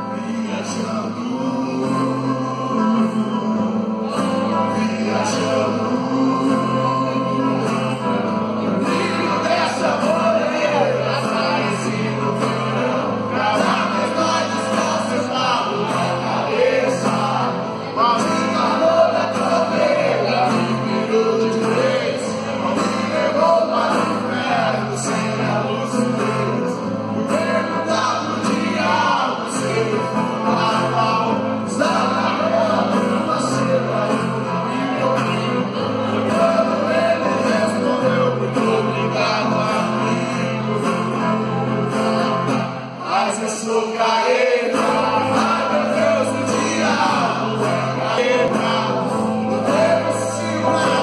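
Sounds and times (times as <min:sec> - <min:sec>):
live band playing: 0:00.0 - 0:51.0
man singing: 0:00.0 - 0:51.0.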